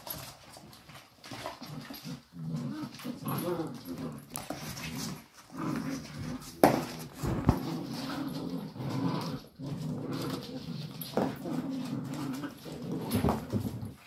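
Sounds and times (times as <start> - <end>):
puppies growling and whining: 0.0 - 14.0.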